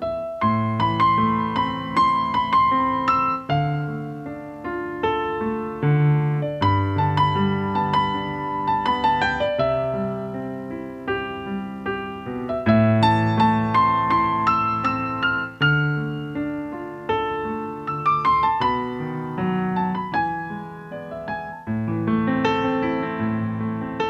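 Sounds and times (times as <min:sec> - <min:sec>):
gentle piano melody: 0:00.0 - 0:24.0.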